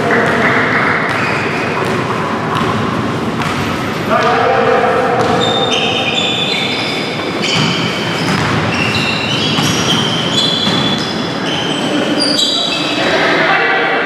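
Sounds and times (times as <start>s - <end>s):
busy gym noise: 0.0s - 14.0s
sneakers squeaking on wooden floor: 0.2s - 3.9s, 5.2s - 13.1s.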